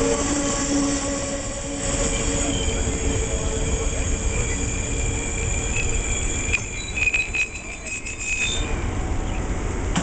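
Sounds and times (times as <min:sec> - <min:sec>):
train wheels and brakes squealing: 0:00.0 - 0:09.6.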